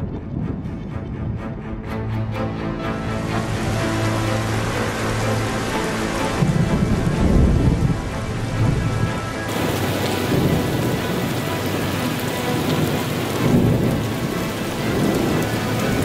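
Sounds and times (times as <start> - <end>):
heavy rain on leaves: 2.8 - 16.0
thunder rumbling: 2.8 - 16.0.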